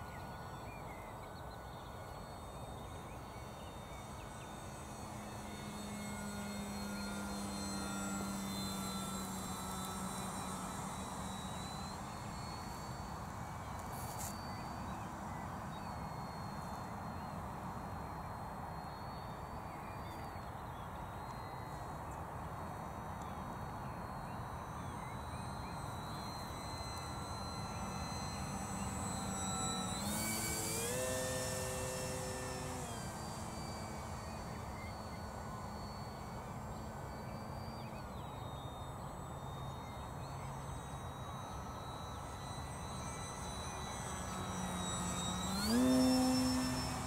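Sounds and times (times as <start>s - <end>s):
model plane motor whining: 0.0s - 47.0s.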